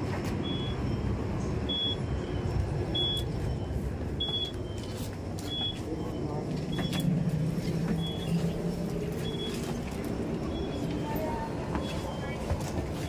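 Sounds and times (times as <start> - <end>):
low train rumble: 0.0 - 13.0.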